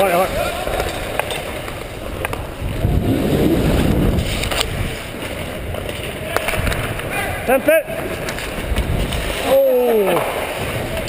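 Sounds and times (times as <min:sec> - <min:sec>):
skates scraping on ice: 0:00.0 - 0:11.0.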